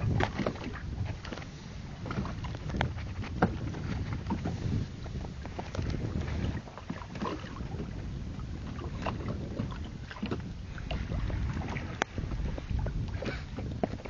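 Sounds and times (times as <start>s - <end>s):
water moving around boat: 0.0s - 14.0s
wind on microphone: 0.0s - 14.0s.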